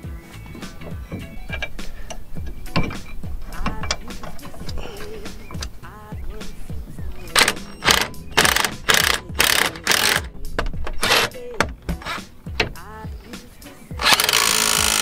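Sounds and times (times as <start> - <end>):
background music: 0.0 - 15.0
impact wrench hammering: 0.5 - 5.8, 6.4 - 12.9, 14.0 - 15.0.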